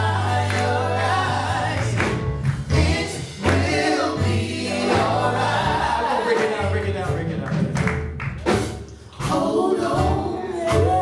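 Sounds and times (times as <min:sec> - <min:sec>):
gospel group singing: 0:00.0 - 0:07.4, 0:08.4 - 0:11.0
instrumental accompaniment with bass: 0:00.0 - 0:11.0.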